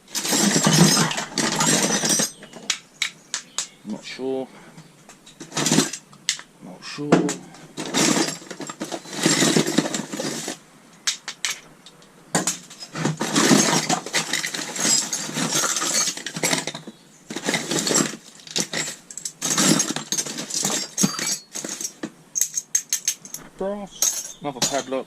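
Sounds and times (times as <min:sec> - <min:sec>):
metal scrap clinking and rattling: 0:00.0 - 0:03.1, 0:05.1 - 0:06.4, 0:07.2 - 0:25.0.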